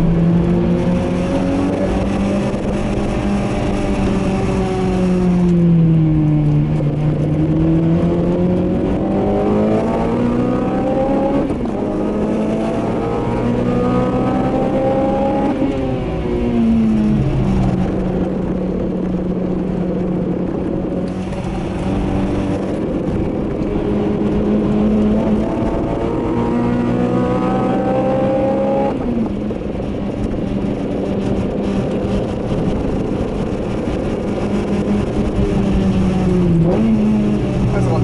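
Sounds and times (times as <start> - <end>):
car engine revving: 0.0 - 38.0
tyre and road noise: 0.0 - 38.0.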